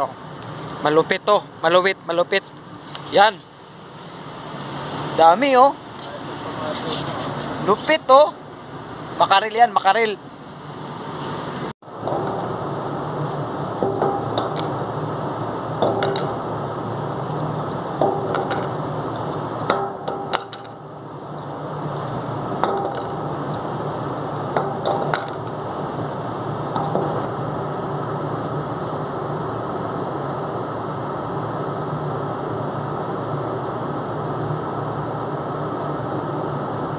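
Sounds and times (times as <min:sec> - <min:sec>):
steady rumbling with low hum: 0:00.0 - 0:36.9.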